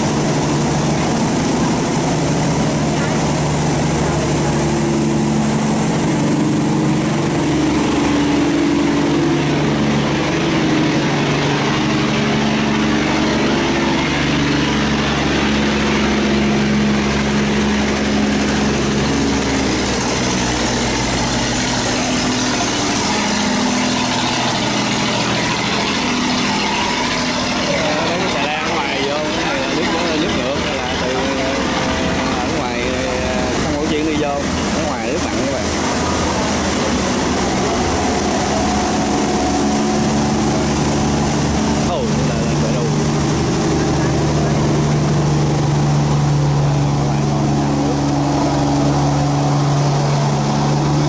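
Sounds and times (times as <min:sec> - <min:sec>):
boat engines running: 0:00.0 - 0:51.0
water rushing through gate: 0:00.0 - 0:51.0.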